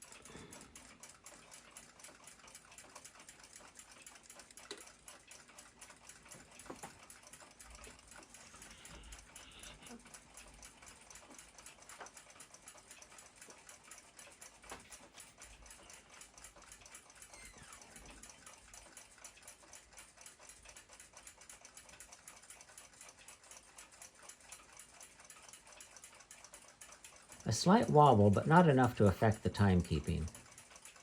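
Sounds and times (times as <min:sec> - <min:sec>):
fast clock ticking: 0:00.0 - 0:31.0.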